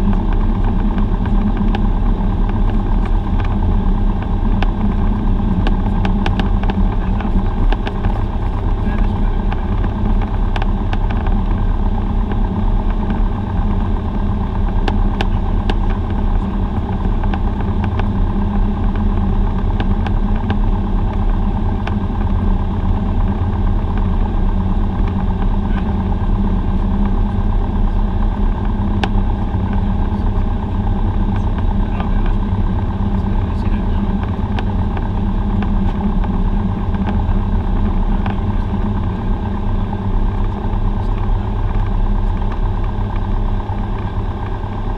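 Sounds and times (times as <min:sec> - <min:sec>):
piston aircraft engine and propeller: 0:00.0 - 0:44.9.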